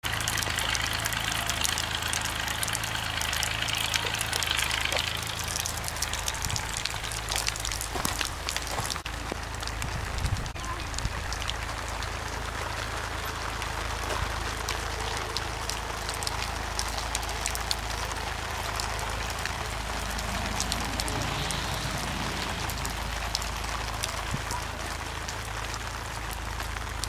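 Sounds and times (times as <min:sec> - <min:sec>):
rain falling: 0:00.0 - 0:27.0
low rumble: 0:00.1 - 0:27.0.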